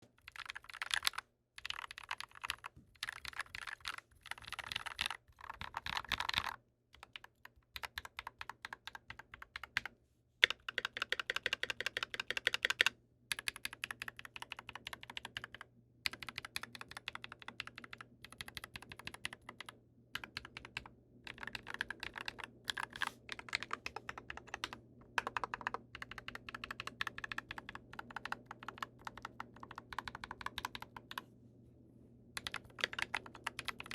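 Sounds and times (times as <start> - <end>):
mechanical keyboard typing: 0.2 - 31.3, 32.4 - 33.9.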